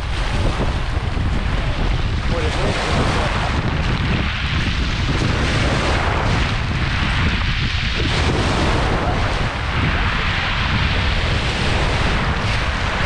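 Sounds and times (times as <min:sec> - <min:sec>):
waves washing up pebble beach: 0:00.0 - 0:13.0
wind rumble on microphone: 0:00.0 - 0:13.0.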